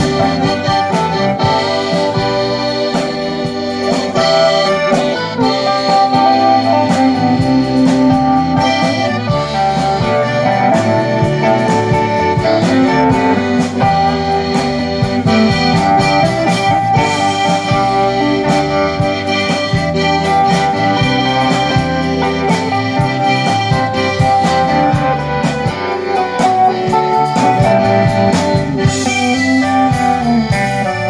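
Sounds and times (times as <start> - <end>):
accordion: 0.0 - 31.0
drums: 0.0 - 31.0
electric guitars: 0.0 - 31.0.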